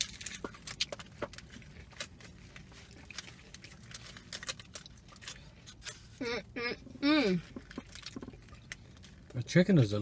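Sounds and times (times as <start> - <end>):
people chewing: 0.0 - 9.4
low steady hum: 0.0 - 10.0.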